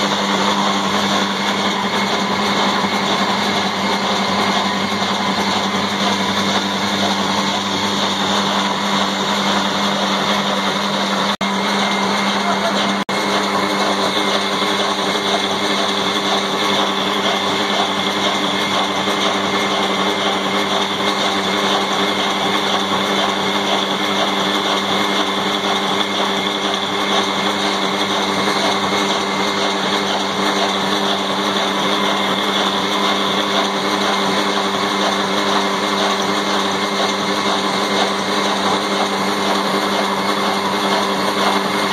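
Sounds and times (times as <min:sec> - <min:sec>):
flour mill grinding: 0:00.0 - 0:41.9
single-cylinder engine running: 0:00.0 - 0:41.9.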